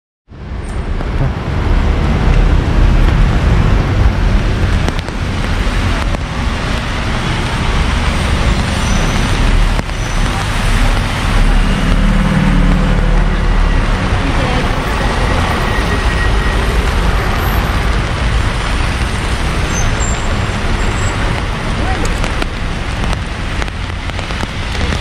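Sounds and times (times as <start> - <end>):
passing vehicles rumbling: 0.3 - 25.0
traffic on wet road: 0.3 - 25.0.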